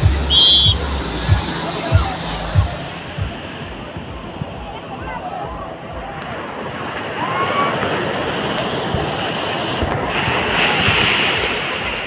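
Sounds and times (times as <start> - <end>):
surf breaking on sand: 0.0 - 12.0
wind buffeting microphone: 0.0 - 12.0.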